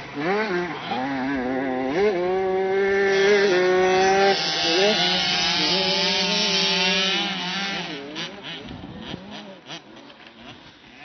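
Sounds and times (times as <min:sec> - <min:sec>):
distant bikes revving: 0:00.0 - 0:11.0
motocross bike engine: 0:00.0 - 0:11.0.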